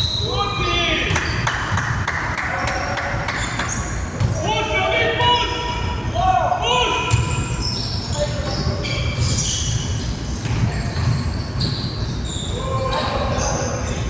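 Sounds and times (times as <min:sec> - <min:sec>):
sneakers squeaking: 0:00.0 - 0:06.2, 0:06.8 - 0:14.0.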